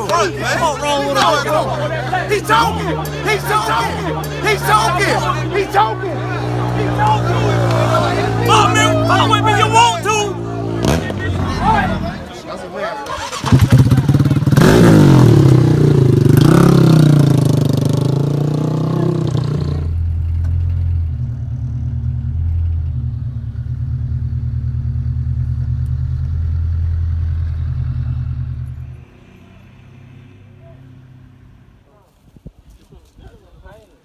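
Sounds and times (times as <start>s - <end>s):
atv engine revving: 0.0s - 31.8s.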